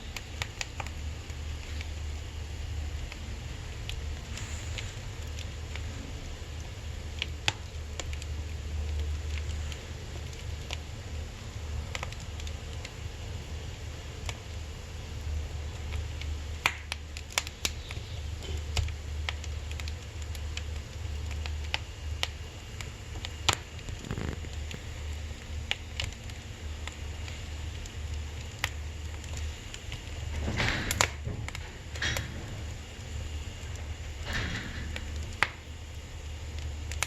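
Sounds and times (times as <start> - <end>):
firewood crackling in stove: 0.0 - 37.0
steady low hum: 0.0 - 37.0.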